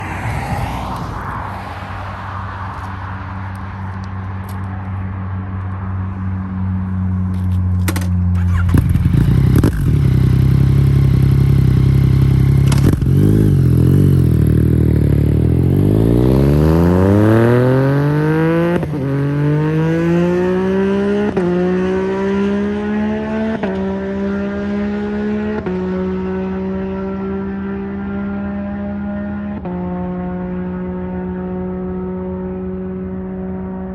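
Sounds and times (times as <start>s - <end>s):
motorcycle engine accelerating: 6.4s - 33.9s.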